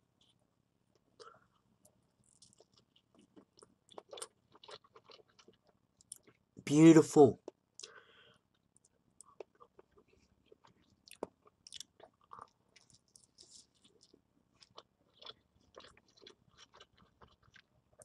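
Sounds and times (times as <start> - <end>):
person chewing food: 0.2 - 6.5, 7.4 - 18.0.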